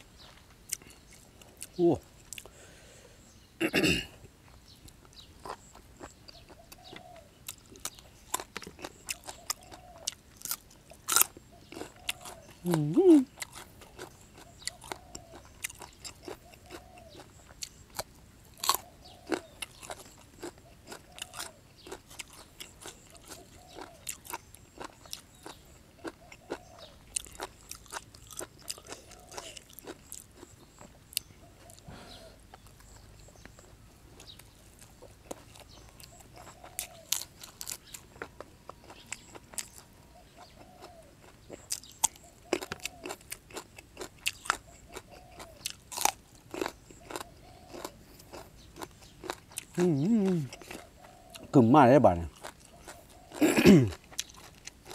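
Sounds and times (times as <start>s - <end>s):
wet chewing mouth sounds: 0.6s - 2.6s, 4.6s - 51.6s, 52.2s - 54.9s.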